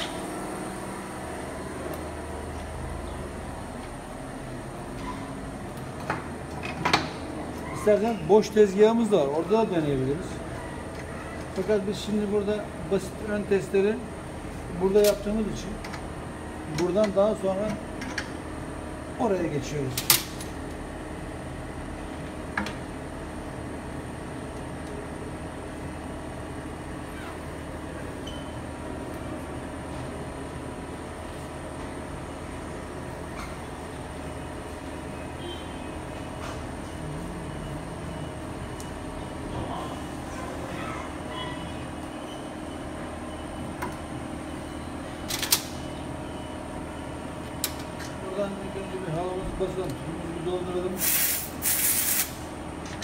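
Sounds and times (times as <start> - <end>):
machine hum with tones: 0.0 - 53.0.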